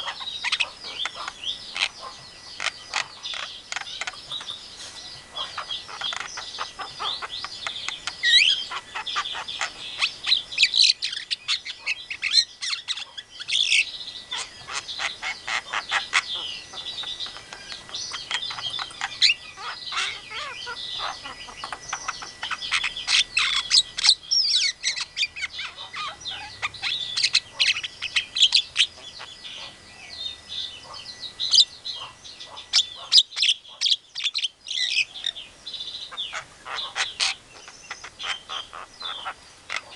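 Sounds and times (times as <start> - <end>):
bird singing chattering chirps: 0.0 - 39.9.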